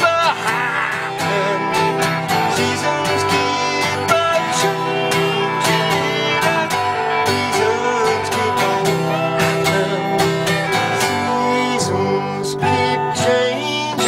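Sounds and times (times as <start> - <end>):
acoustic guitar strumming: 0.0 - 14.0
electric guitar lead: 0.0 - 14.0.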